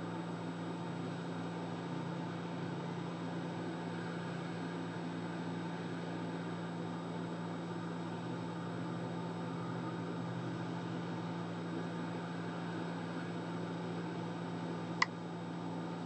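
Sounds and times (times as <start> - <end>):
steady low hum with hiss: 0.0 - 16.0.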